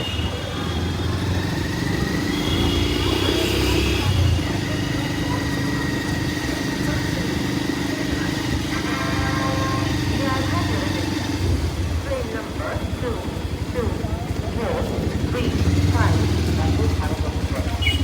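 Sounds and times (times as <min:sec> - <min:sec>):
scattered voices: 0:00.0 - 0:18.0.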